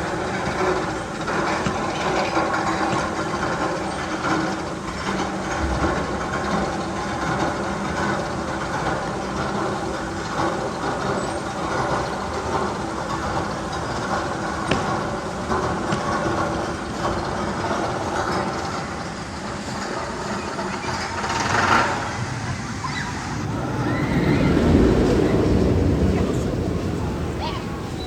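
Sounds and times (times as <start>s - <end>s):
roller coaster rattling on track: 0.0s - 28.0s.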